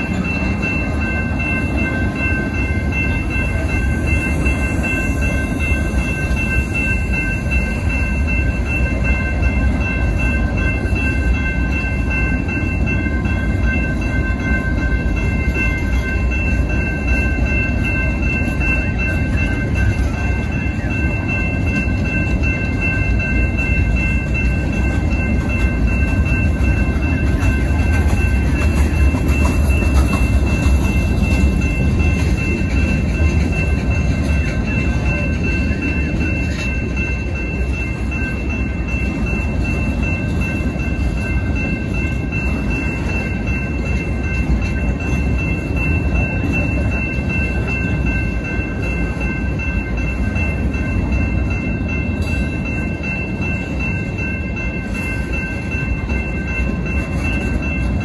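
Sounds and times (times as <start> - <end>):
crossing bell ringing: 0.0 - 58.0
freight train wheels rumbling on rails: 0.0 - 58.0.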